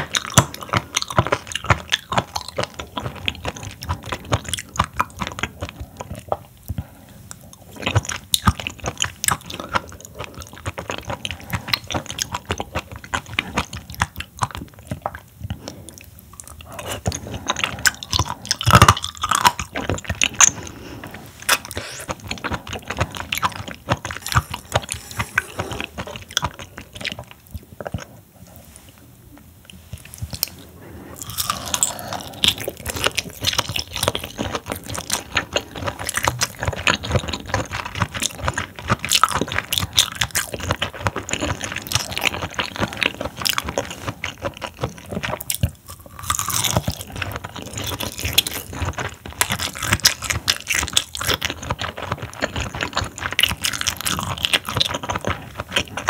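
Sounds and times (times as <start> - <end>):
chewing with wet clicks and smacks: 0.0 - 28.3, 29.3 - 56.0.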